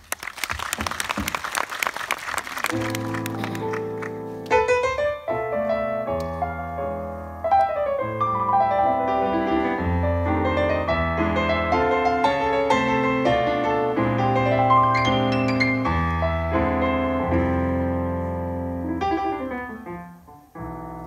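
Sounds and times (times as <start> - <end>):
solo bossa nova piano: 2.8 - 21.0.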